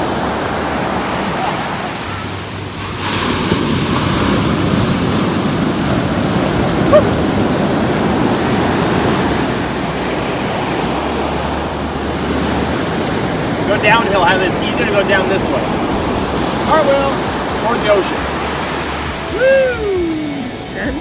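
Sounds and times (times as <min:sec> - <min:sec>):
ocean surf washing on beach: 0:00.0 - 0:21.0
wind buffeting microphone: 0:00.0 - 0:21.0.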